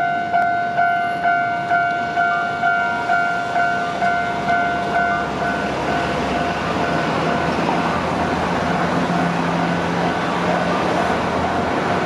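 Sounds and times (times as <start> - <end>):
level-crossing warning bell: 0.0 - 12.0
road traffic passing: 0.0 - 12.0.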